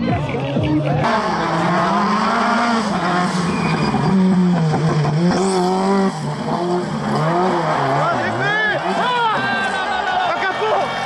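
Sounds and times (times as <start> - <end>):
rally car engine at high revs: 1.0 - 11.0.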